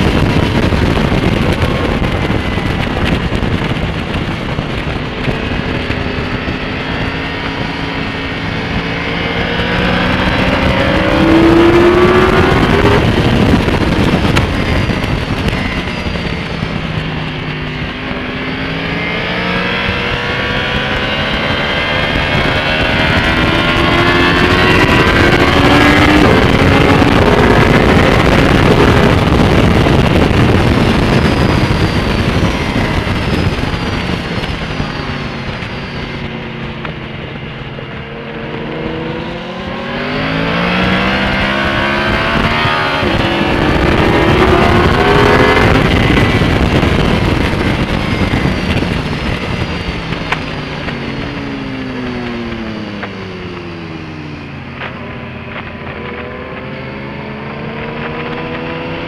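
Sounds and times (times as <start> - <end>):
motorcycle engine at speed: 0.0 - 59.0
wind rush: 0.0 - 59.0.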